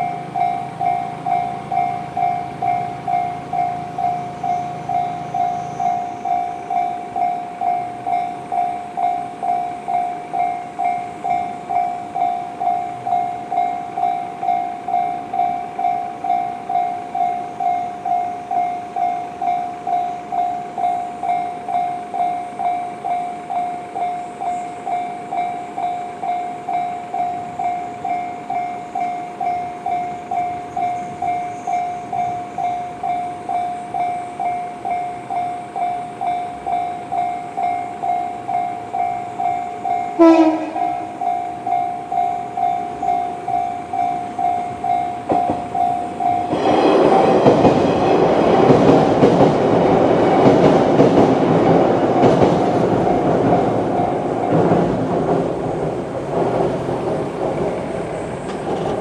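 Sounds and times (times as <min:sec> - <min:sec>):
level crossing warning bell: 0:00.0 - 0:55.6
train wheels on rails: 0:00.0 - 0:59.0.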